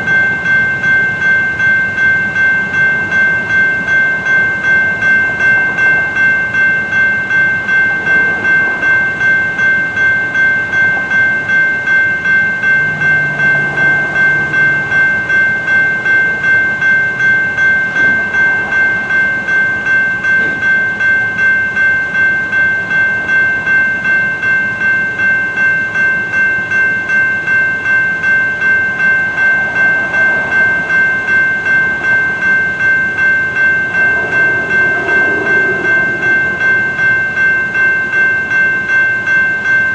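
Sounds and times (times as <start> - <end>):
crossing bell dinging: 0.0 - 39.9.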